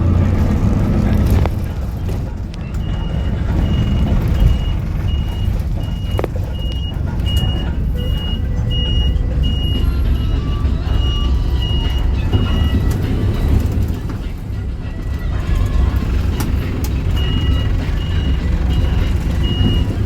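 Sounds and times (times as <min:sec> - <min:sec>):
bus warning beeper: 0:00.0 - 0:20.0
diesel engine idling: 0:00.0 - 0:20.0.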